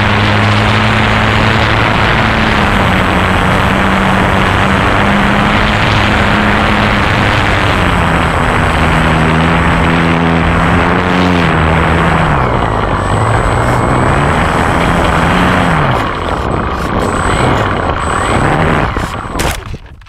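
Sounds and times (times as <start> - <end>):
model airplane motor droning: 0.0 - 20.0
wind rush on microphone: 0.0 - 20.0.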